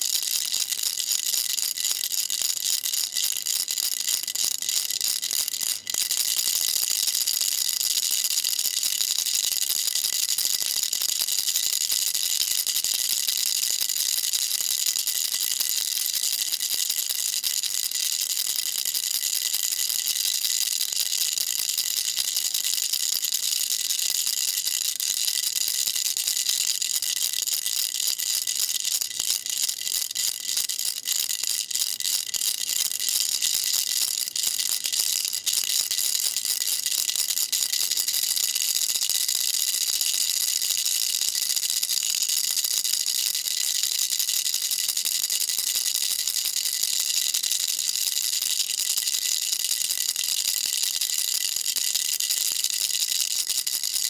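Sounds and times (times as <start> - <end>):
baby rattle shaking: 0.0 - 13.5, 15.4 - 54.0.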